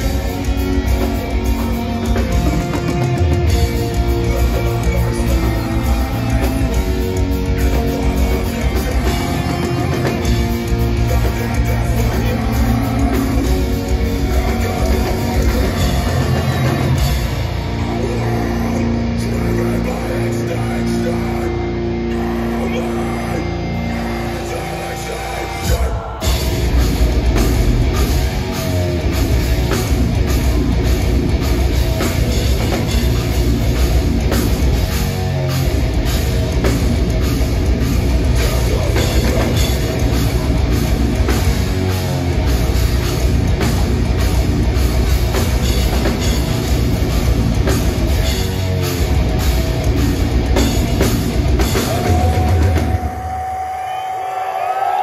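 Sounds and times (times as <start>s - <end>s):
metal band playing: 0.0s - 55.0s.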